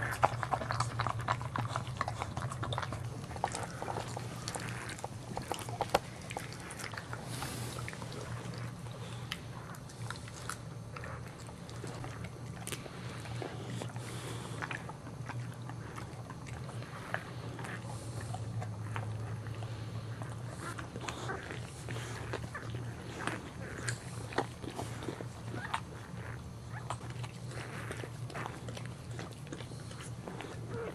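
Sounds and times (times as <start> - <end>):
dog licking and chewing: 0.0 - 30.9
steady low hum: 0.0 - 30.9.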